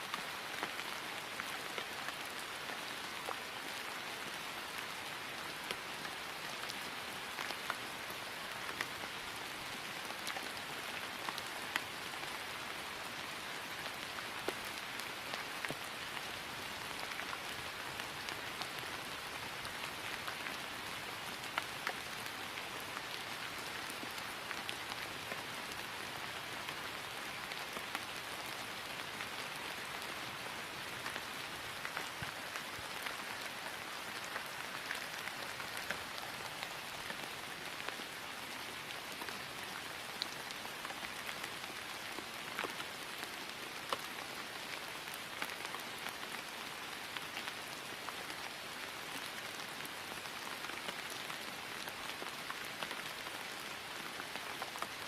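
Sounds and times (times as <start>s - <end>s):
rain falling on grass: 0.0s - 55.0s.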